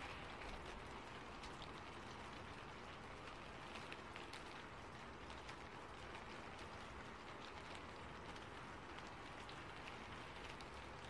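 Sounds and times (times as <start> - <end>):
faint steady rain: 0.0 - 11.0.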